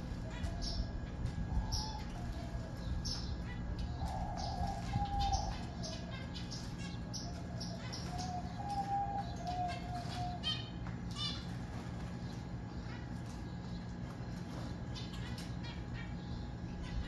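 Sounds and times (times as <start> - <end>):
finches chirping: 0.0 - 17.0
low held bird calls: 0.0 - 17.0
steady low hum: 0.0 - 17.0.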